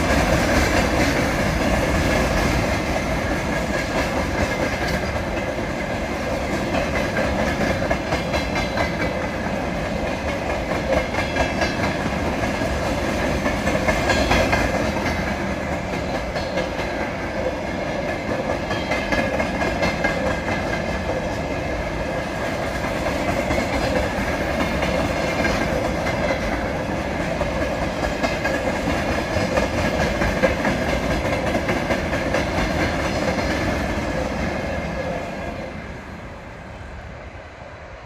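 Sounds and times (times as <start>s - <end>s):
train wheels clattering on rails: 0.0s - 36.0s.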